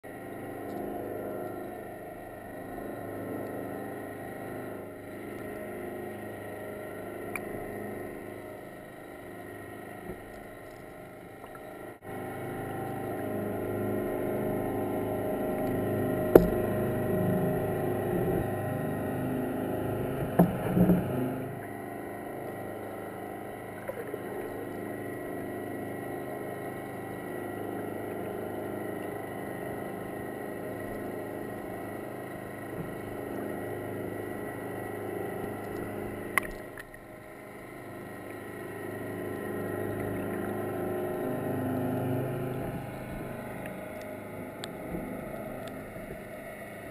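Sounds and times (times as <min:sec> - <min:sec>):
underwater boat engine drone: 0:00.0 - 0:46.9.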